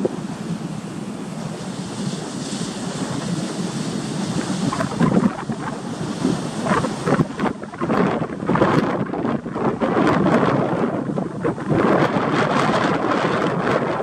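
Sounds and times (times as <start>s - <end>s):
surf breaking on rocky shore: 0.0s - 14.0s
wind rumbling on microphone: 0.0s - 14.0s.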